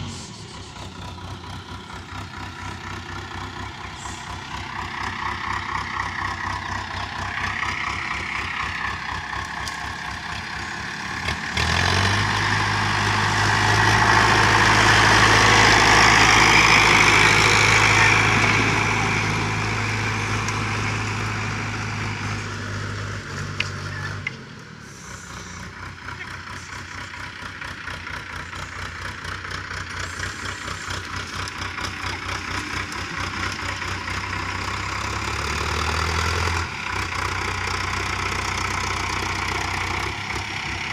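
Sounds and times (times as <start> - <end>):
tractor diesel engine chugging: 0.0 - 40.9.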